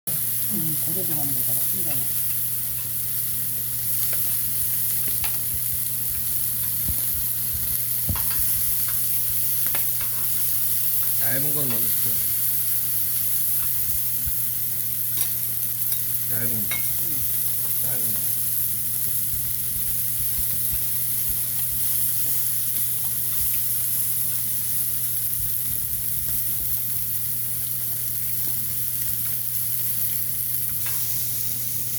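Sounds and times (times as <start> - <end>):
food sizzling: 0.1 - 31.9.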